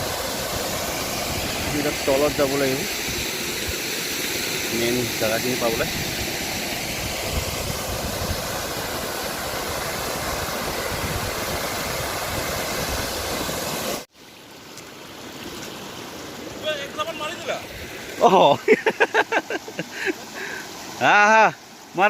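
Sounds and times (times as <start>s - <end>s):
waterfall rushing: 0.0s - 14.1s, 15.2s - 22.0s.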